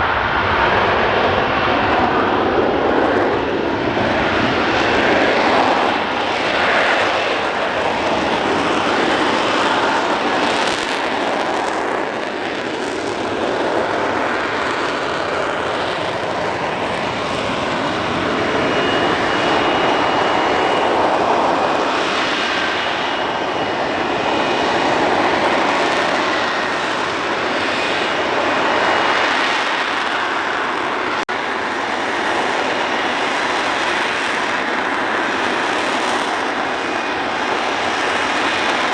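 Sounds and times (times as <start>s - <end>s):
aircraft engine roar: 0.0s - 38.9s.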